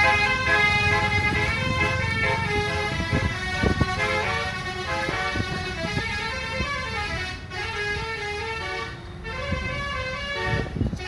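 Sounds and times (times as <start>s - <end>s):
bus multi-tone horn melody: 0.0s - 11.0s
road traffic rumble: 0.0s - 11.0s.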